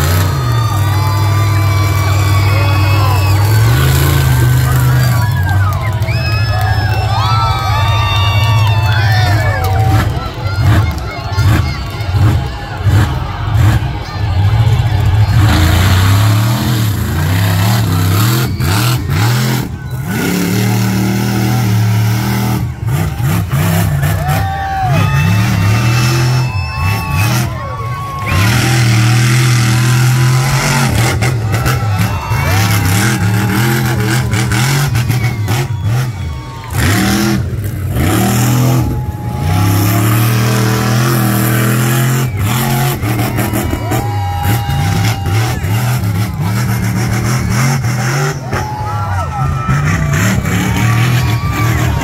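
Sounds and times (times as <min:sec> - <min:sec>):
truck engine revving hard: 0:00.0 - 0:52.0.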